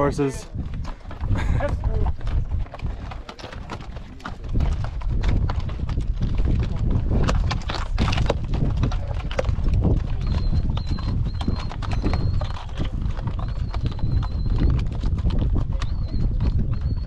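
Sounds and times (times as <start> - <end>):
horse hooves clopping on rock: 0.0 - 17.0.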